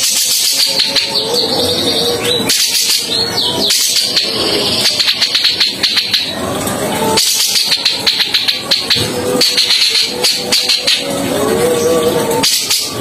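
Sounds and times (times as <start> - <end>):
music with rattling percussion: 0.0 - 13.0.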